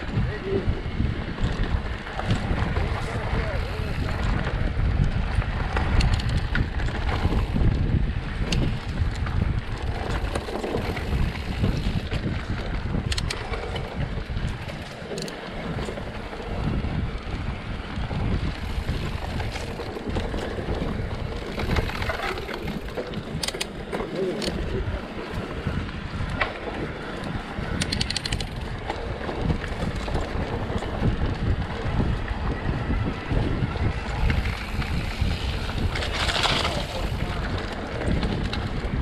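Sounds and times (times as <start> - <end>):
bike clicks and rattles: 0.0 - 39.0
bike tyres rolling on dirt: 0.0 - 39.0
wind buffeting microphone: 0.0 - 39.0.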